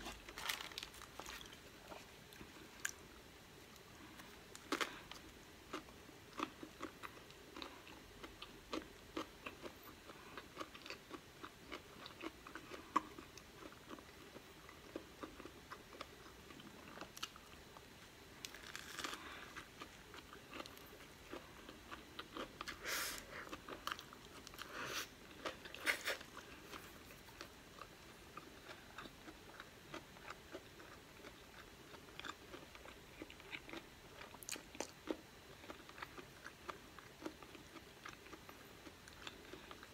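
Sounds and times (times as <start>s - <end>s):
person chewing a burger: 4.0s - 17.4s, 18.4s - 39.9s.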